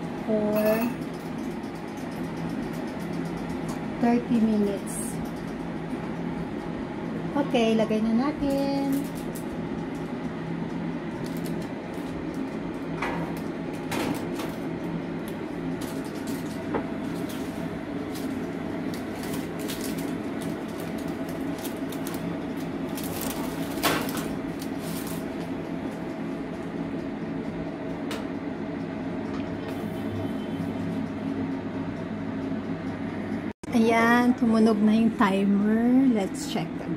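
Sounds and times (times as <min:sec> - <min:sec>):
appliance humming: 0:00.0 - 0:36.9.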